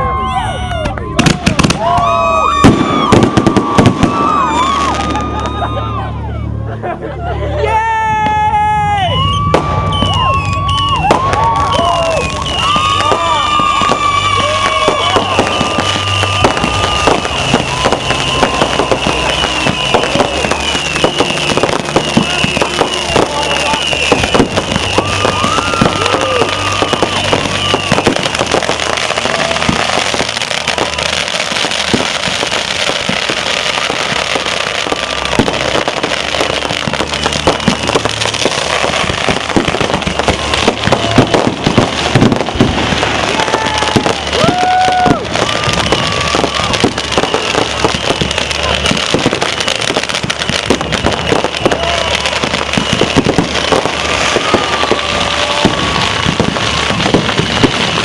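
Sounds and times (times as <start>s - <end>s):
firework whistling tones: 0.0s - 58.0s
fireworks crackling and popping: 0.0s - 58.0s.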